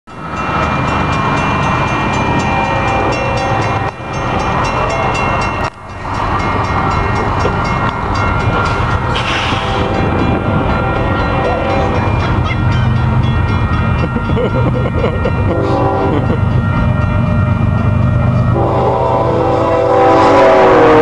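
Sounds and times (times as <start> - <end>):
crossing warning bell ringing: 0.1 - 21.0.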